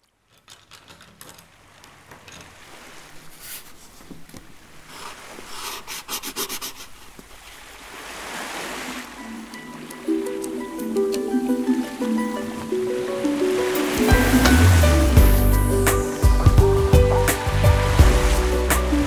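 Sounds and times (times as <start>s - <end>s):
water splashing and lapping: 0.0s - 19.0s.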